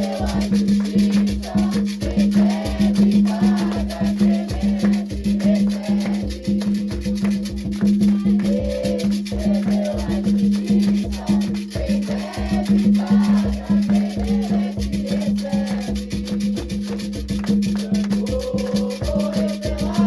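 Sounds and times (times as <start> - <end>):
voices singing: 0.0 - 7.3, 7.9 - 16.9, 17.6 - 20.0
hand percussion drumming: 0.0 - 20.0
shaker: 0.0 - 20.0.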